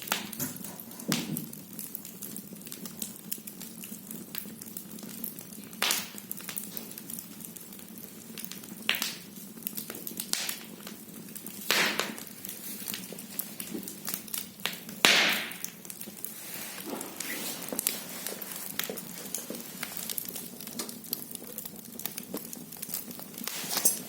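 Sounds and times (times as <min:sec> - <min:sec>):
firewood crackling in fireplace: 0:00.0 - 0:24.0
loud fire pops: 0:00.0 - 0:24.0.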